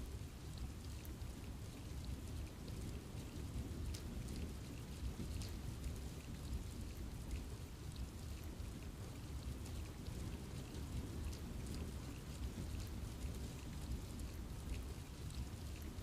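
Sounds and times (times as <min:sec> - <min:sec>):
raindrops pattering on leaves: 0:00.0 - 0:16.0
steady rain in forest: 0:00.0 - 0:16.0.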